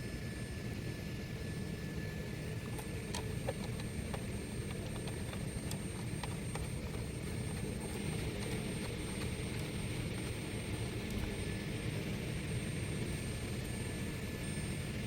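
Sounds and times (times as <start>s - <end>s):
low background rumble: 1.6s - 15.0s.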